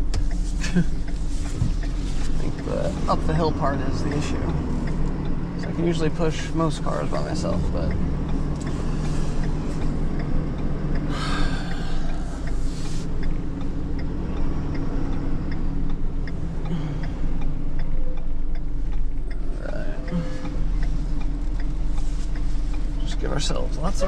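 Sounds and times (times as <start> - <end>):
indicator relay ticking: 0.0 - 24.0
truck engine running: 0.0 - 24.0.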